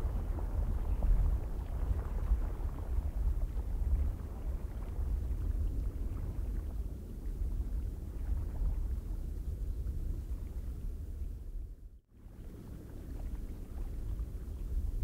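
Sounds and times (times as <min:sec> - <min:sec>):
wind buffeting microphone: 0:00.0 - 0:11.8, 0:12.8 - 0:15.0
faint wind hiss: 0:00.0 - 0:15.0.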